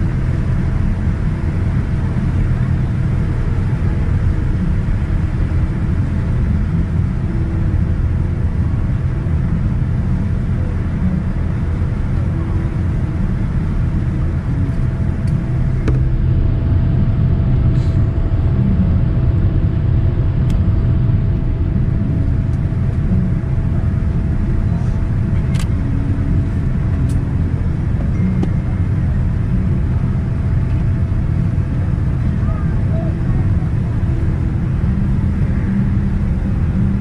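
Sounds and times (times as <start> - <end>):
aircraft cabin rumble: 0.0 - 37.0.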